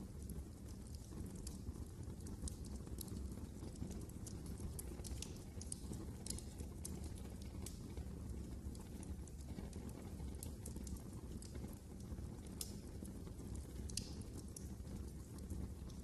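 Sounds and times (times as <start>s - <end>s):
fire flames rumbling: 0.0s - 16.0s
logs crackling and popping: 0.2s - 16.0s.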